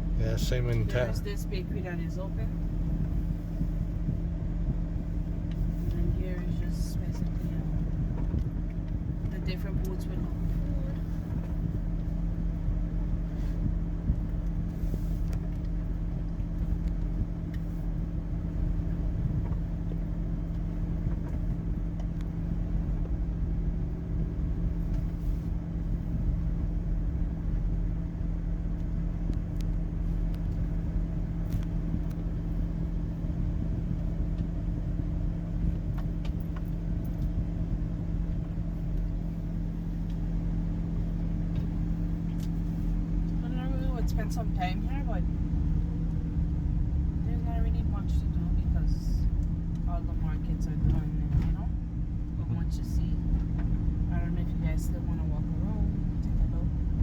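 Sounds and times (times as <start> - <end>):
car engine hum inside cabin: 0.0 - 57.0.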